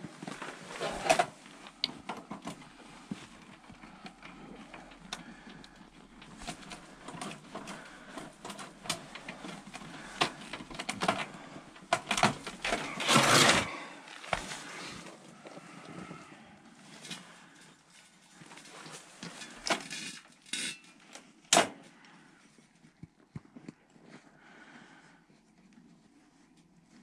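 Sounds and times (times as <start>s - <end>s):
hands handling hose and fittings: 0.0s - 22.2s.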